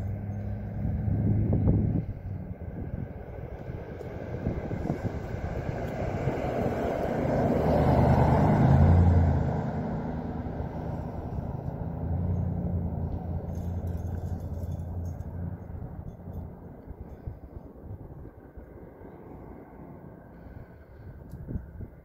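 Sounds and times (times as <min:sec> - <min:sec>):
low engine hum: 0:00.0 - 0:22.0
vehicle passing on road: 0:00.0 - 0:22.0.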